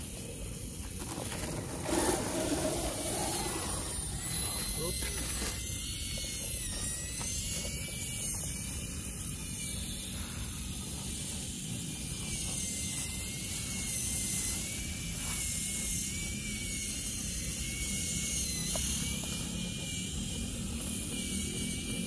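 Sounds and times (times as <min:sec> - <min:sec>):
toy truck motor whining: 0:00.0 - 0:22.0.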